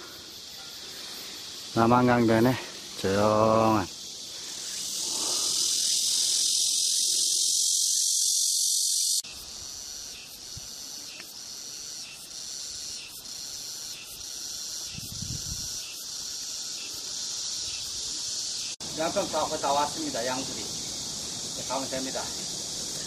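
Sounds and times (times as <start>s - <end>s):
cicadas buzzing: 0.0s - 23.0s
pulsing cicada calls: 0.0s - 23.0s.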